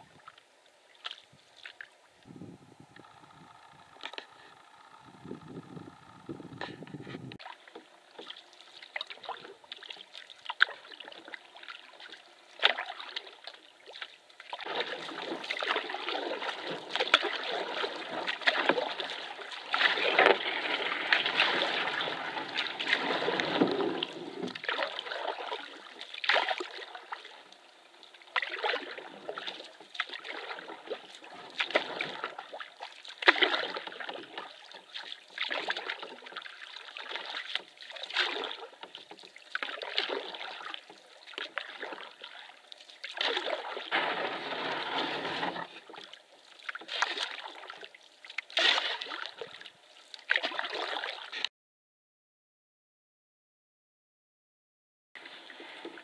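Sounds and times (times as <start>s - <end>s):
paddle strokes splashing water: 0.0s - 4.6s, 6.6s - 51.5s, 55.2s - 56.0s.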